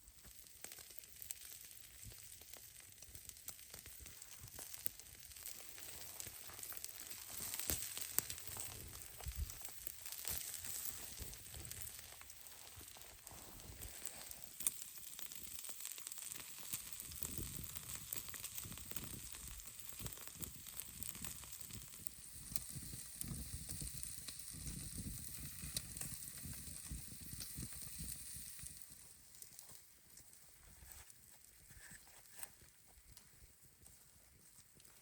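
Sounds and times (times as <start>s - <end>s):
campfire sizzling and crackling: 0.0s - 35.0s.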